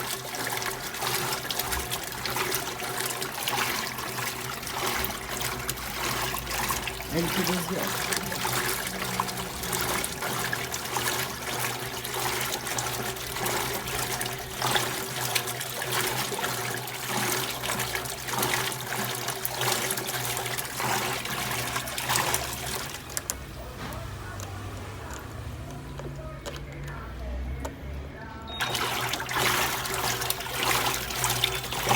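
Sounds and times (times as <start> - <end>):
water running in washing machine: 0.0 - 31.9.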